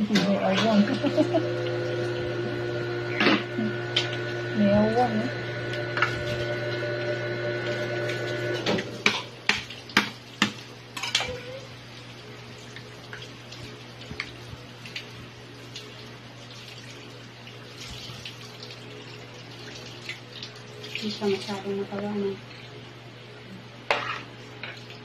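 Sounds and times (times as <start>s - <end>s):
tap water running into sink: 0.2s - 4.9s, 5.6s - 11.6s, 12.6s - 22.0s.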